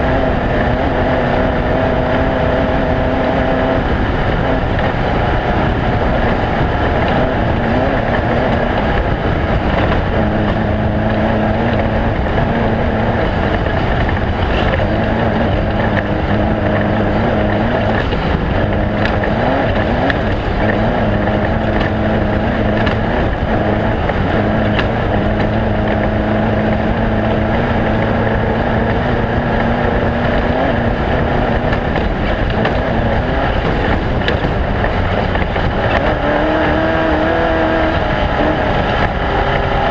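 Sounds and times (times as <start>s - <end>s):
rumble of driving noise: 0.0s - 39.9s
vehicle engine running hard: 0.0s - 39.9s.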